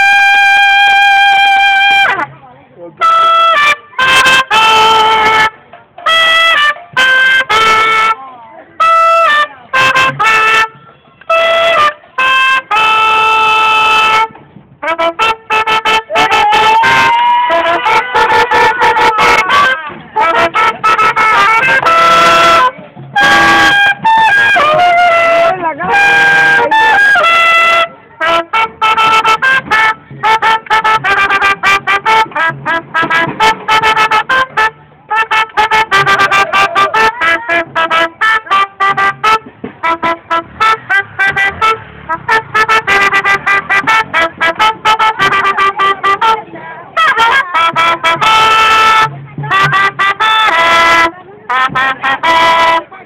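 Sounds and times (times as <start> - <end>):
trumpet blasts: 0.0 - 53.0.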